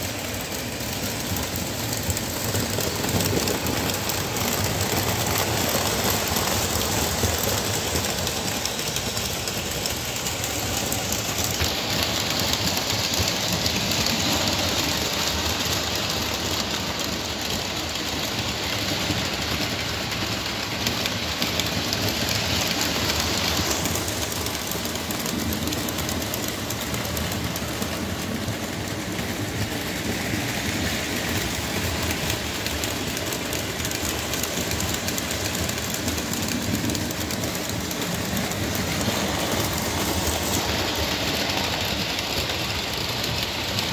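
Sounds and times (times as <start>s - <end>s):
model locomotive motors: 0.0s - 43.9s
model train wheels rattling on rails: 0.0s - 43.9s.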